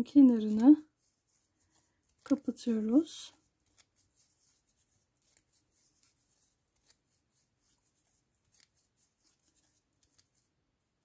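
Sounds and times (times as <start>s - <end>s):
faint clicks and rustles: 0.0s - 10.6s.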